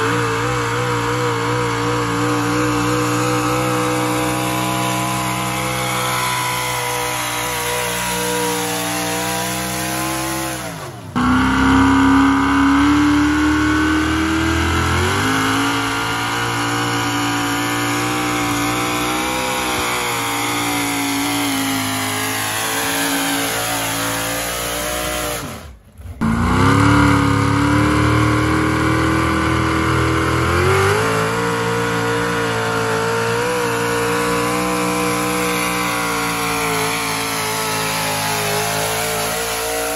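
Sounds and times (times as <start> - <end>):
truck engines revving hard: 0.0 - 39.9.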